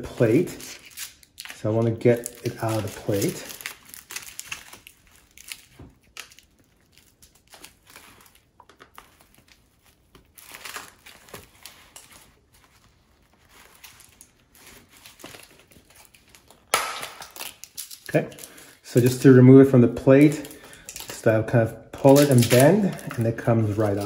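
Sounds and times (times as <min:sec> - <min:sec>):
plastic crinkling and crackling: 0:00.0 - 0:21.3, 0:22.0 - 0:24.0.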